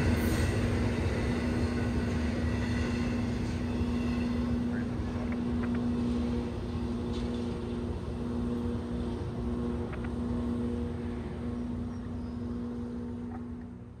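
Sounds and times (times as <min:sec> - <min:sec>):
diesel locomotives droning: 0:00.0 - 0:14.0.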